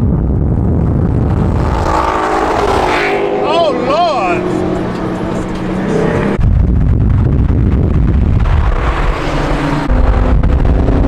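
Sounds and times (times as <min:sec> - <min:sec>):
car engines droning: 0:00.0 - 0:11.0
wind buffeting microphone: 0:00.0 - 0:11.0.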